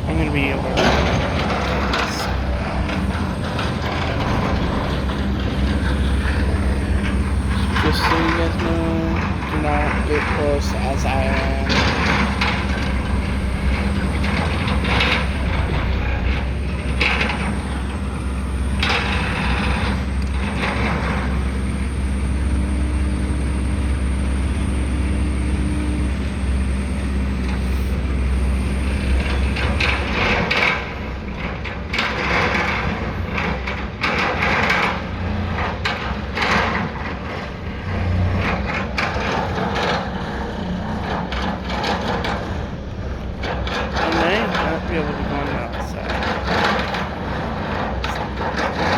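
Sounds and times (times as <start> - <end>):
machinery clanks and scrapes: 0.0 - 21.8, 25.9 - 48.9
diesel engine drone: 0.0 - 48.9.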